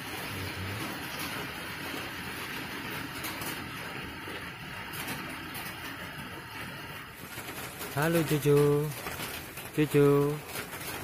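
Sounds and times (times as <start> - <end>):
steady rain hiss: 0.0 - 10.6.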